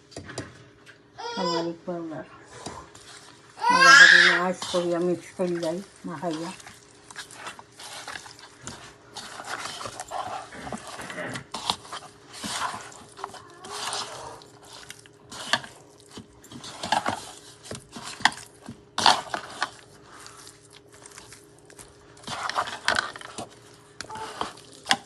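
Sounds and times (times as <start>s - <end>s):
wet squishing of meat by hand: 2.5s - 25.0s.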